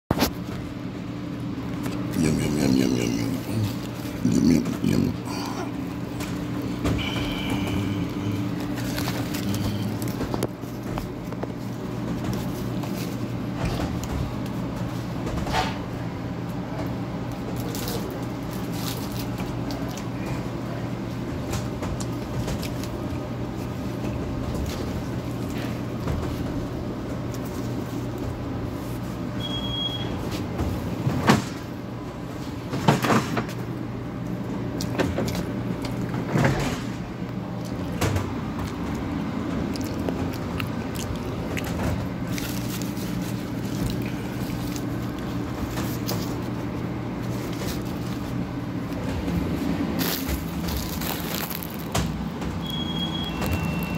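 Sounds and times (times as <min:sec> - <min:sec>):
machine hum: 0:00.1 - 0:53.9.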